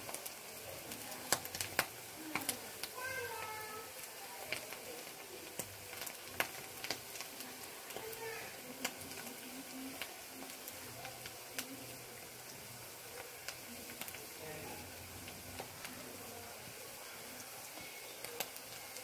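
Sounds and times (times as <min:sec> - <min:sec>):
potatoes sizzling in hot oil: 0:00.0 - 0:19.0.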